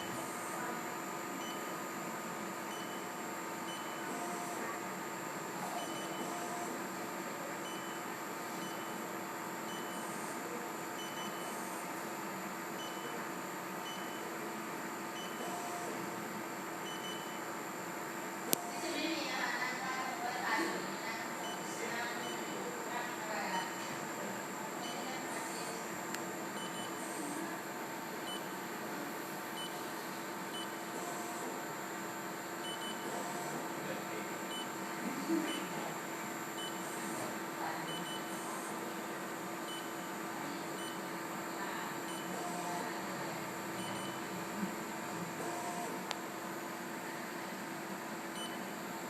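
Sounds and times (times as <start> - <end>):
steady electrical hum: 0.0 - 49.0.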